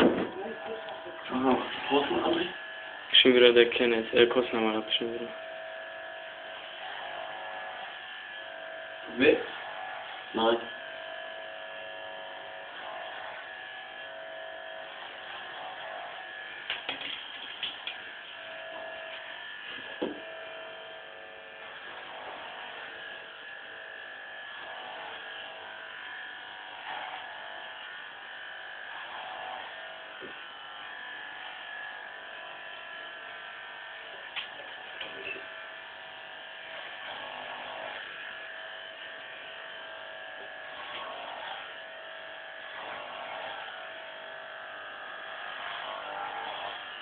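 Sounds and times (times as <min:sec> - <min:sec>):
electric hair clippers buzzing: 0:00.0 - 0:47.0.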